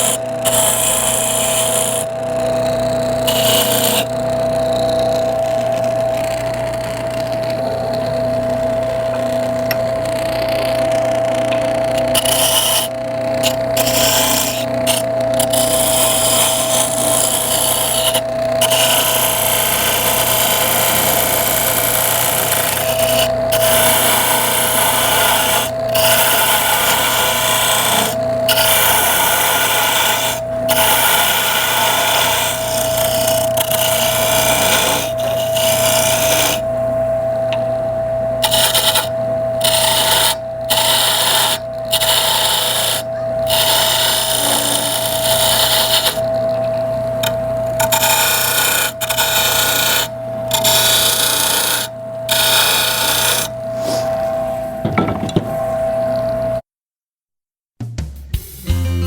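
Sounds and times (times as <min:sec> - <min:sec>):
tool cutting wood scraping hiss: 0:00.0 - 0:36.7, 0:38.4 - 0:46.3, 0:47.1 - 0:55.5
lathe motor whine: 0:00.0 - 0:56.6.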